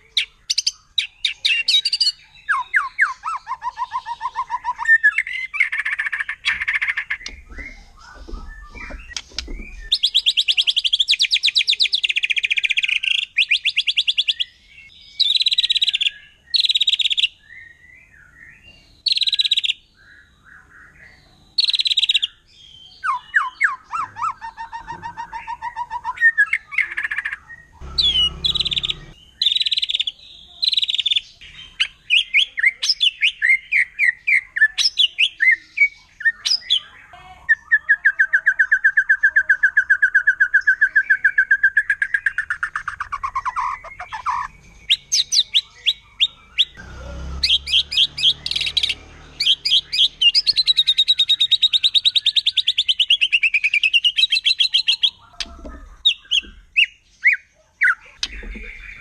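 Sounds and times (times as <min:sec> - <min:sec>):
bird singing whistles and trills: 0:00.0 - 0:46.8, 0:47.5 - 0:59.0.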